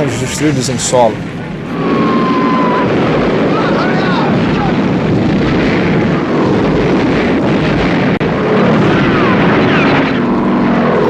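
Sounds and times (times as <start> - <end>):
propeller warplanes droning: 0.0 - 11.0.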